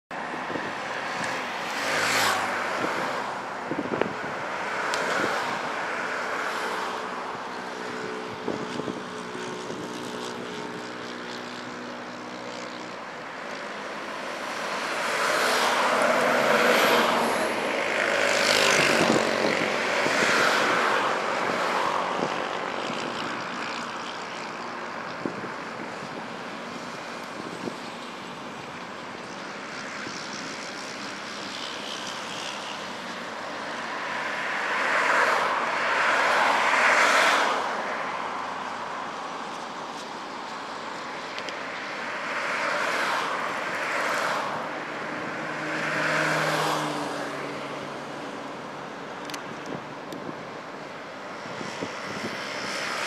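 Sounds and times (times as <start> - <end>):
road traffic passing: 0.1 - 53.0.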